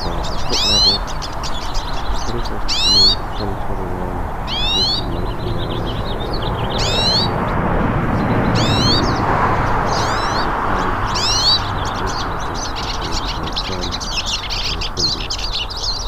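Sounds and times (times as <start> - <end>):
bird twittering: 0.0 - 16.0
birds singing high notes: 0.0 - 16.0.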